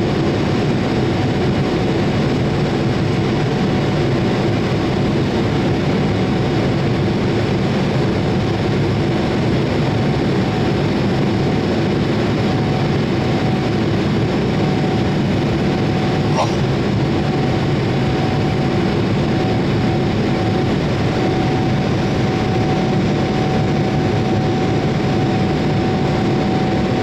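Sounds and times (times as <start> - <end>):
jet engine noise with whine: 0.0 - 27.0.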